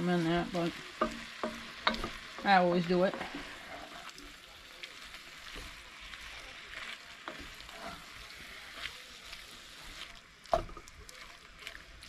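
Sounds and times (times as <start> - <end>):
mushrooms sizzling in butter: 0.0 - 12.0
wooden spoon scraping pot: 0.0 - 12.0.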